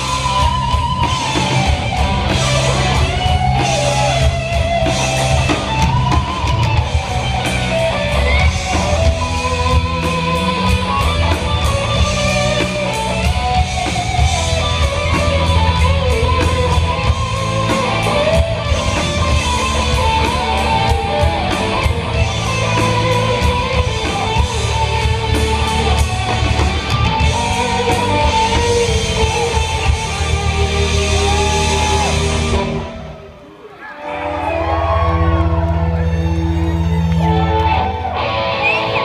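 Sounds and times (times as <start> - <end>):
heavy bass: 0.0 - 33.2
electric guitar: 0.0 - 39.0.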